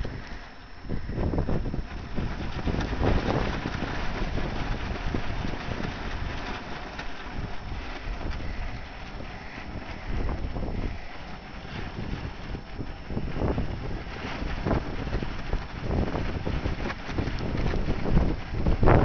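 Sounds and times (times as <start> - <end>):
tarp flapping in wind: 0.0 - 19.0
wind buffeting microphone: 0.0 - 19.0.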